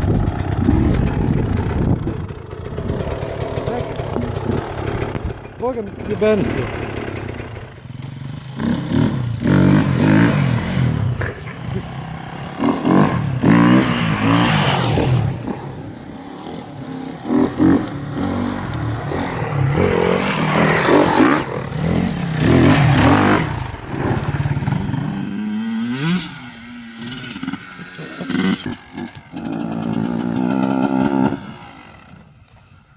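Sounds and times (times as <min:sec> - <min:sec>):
dirt bike engine revving: 0:00.0 - 0:32.5.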